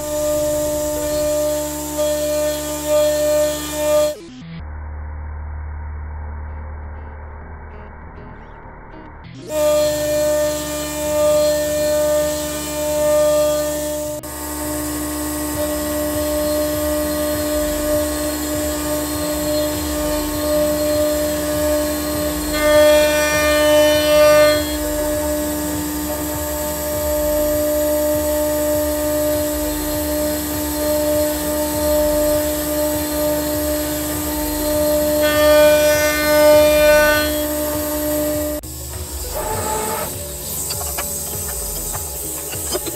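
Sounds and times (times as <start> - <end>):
router spindle whine: 0.0 - 4.2, 9.4 - 42.9
vacuum pump running: 0.0 - 4.2, 9.5 - 42.9
higher multi-tone cutter whine: 0.0 - 4.6, 9.4 - 42.9.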